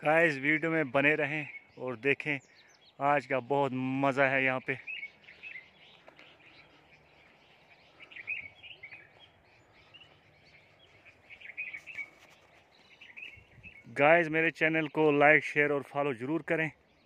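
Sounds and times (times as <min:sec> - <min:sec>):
faint outdoor hiss: 0:00.0 - 0:17.0
small birds chirping: 0:00.0 - 0:17.0.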